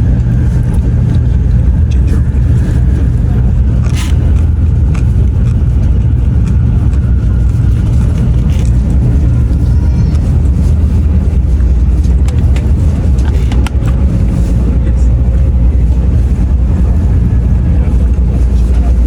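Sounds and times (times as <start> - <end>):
train rumble from inside: 0.0 - 19.0.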